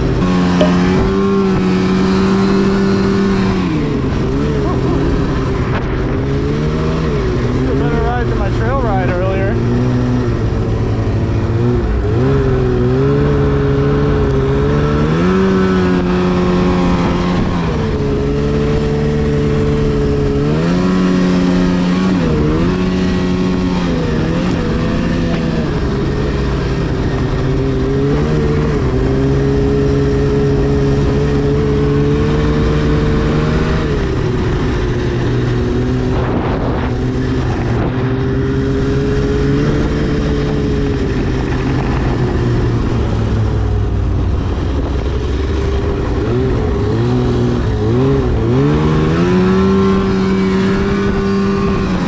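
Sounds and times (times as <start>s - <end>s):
snowmobile engine revving: 0.0s - 52.0s.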